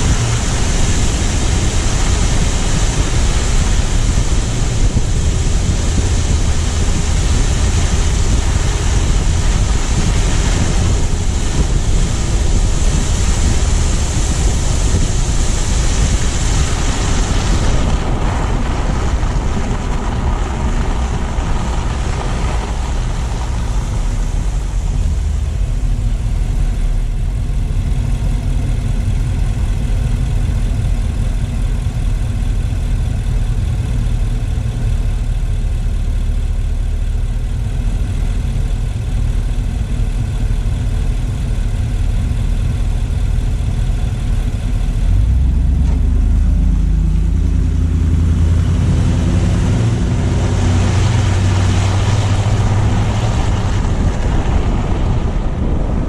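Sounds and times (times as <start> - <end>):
car engine running: 0.0 - 56.0
road noise: 0.0 - 56.0.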